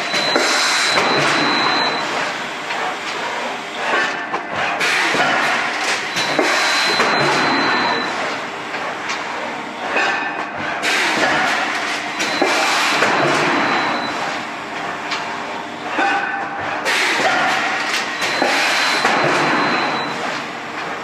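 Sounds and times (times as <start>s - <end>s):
machinery clattering and hissing: 0.0s - 21.0s.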